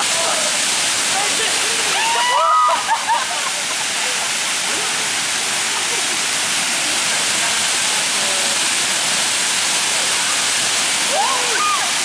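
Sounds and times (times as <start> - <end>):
waterfall pouring over rocks: 0.0 - 12.0.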